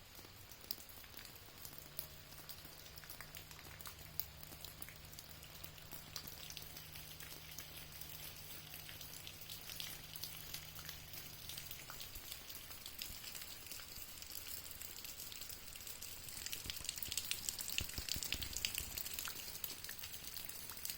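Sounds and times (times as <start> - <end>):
rain pattering: 0.0 - 20.9.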